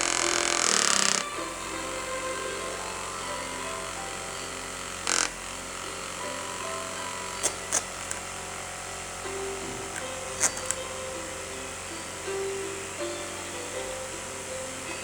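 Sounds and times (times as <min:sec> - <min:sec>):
electric fan motor whir: 0:00.0 - 0:15.0.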